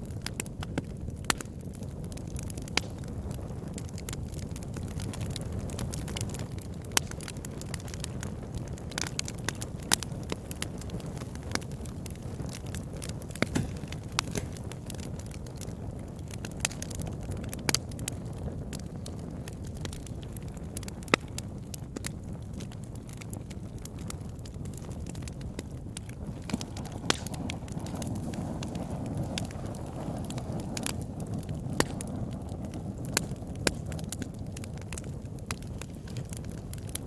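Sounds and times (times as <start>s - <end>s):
campfire burning: 0.0s - 37.0s
wood crackling and popping: 0.0s - 37.0s.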